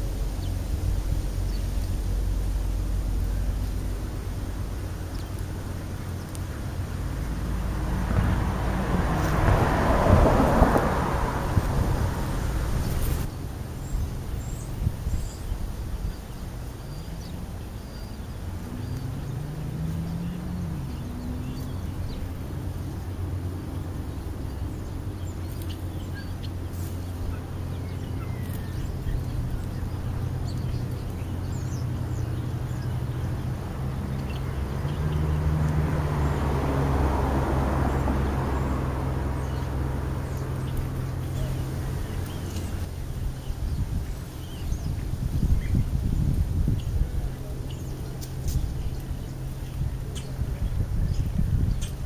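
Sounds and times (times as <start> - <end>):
car passing: 0.0 - 52.0
traffic engine hum: 0.0 - 52.0.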